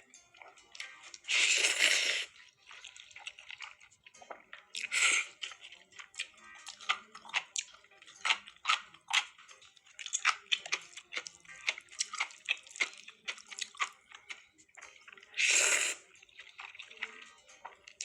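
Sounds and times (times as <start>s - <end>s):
wet chewing and mouth clicks: 0.0s - 18.0s.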